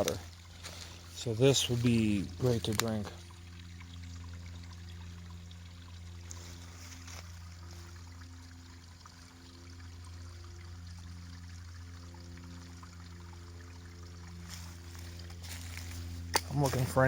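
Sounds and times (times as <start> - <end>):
stream trickling: 0.0 - 17.0.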